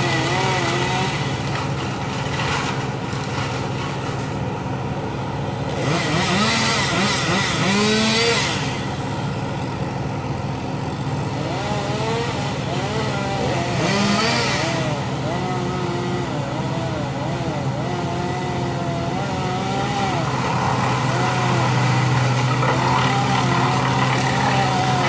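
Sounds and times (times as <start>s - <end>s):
chainsaw revving: 0.0s - 4.3s, 5.4s - 25.0s
engine running steadily: 0.0s - 25.0s.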